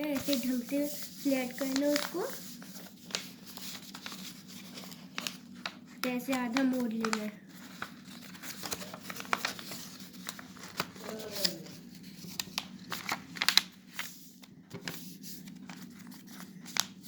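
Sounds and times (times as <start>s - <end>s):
paper being folded and creased: 0.0s - 17.0s.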